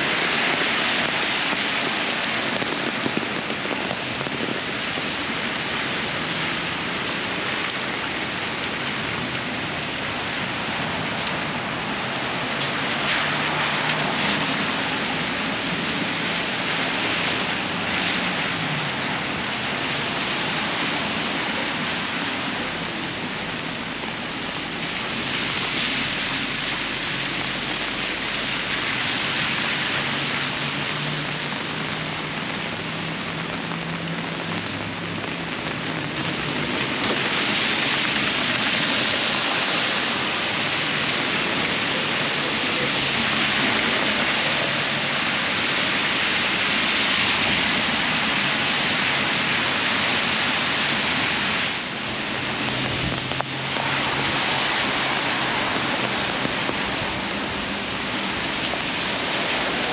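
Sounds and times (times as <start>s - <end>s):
rain on an umbrella: 0.0s - 59.9s
traffic on a wet road: 0.0s - 59.9s.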